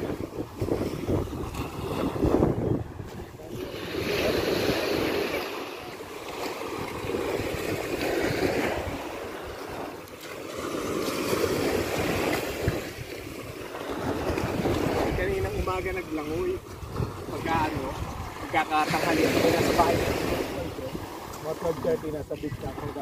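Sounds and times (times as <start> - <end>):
wind buffeting microphone: 0.0 - 10.0, 10.6 - 23.0
gentle surf on shore: 0.0 - 23.0.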